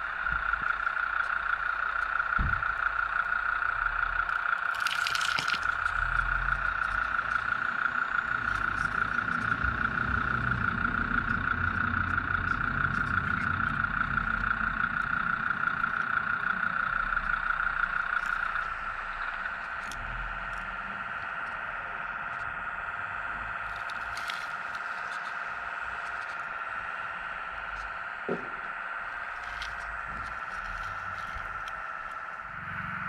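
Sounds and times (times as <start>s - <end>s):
hydraulic pump whine: 0.0s - 33.0s
low shifting rumble: 0.0s - 33.0s.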